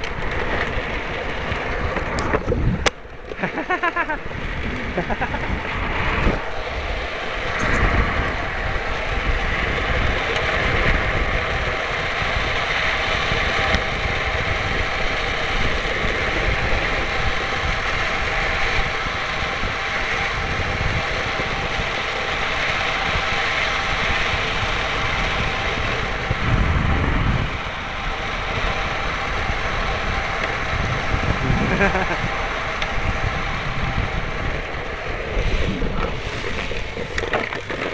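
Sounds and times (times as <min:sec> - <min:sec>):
wheels rumbling on tarmac: 0:00.0 - 0:37.9
wind buffeting microphone: 0:00.0 - 0:37.9.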